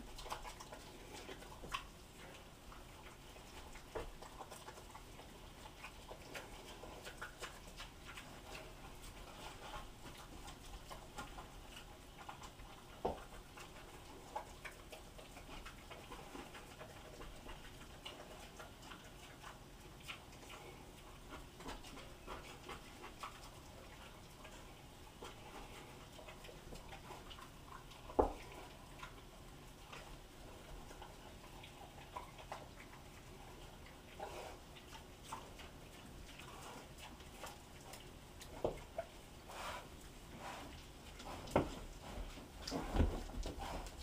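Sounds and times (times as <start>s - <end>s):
animals chewing and smacking: 0.0s - 44.0s.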